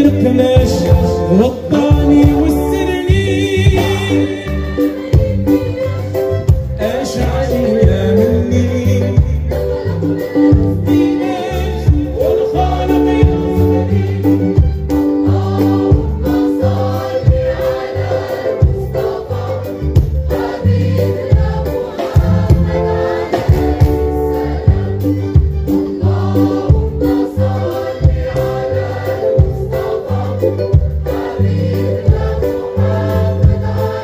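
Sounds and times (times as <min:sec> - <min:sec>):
choir singing: 0:00.0 - 0:34.0
steady low beat: 0:00.0 - 0:34.0.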